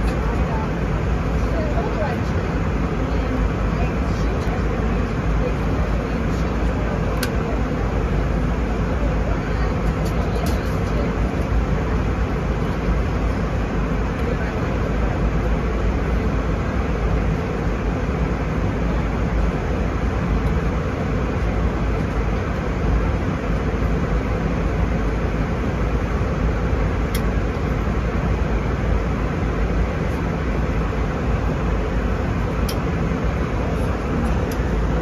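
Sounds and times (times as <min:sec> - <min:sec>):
airplane cabin roar: 0:00.0 - 0:35.0.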